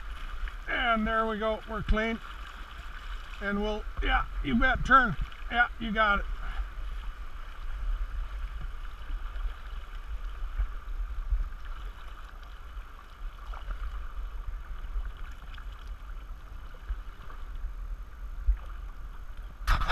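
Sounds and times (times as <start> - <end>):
river water rushing: 0.0 - 19.7
wind rumbling on microphone: 0.0 - 19.9.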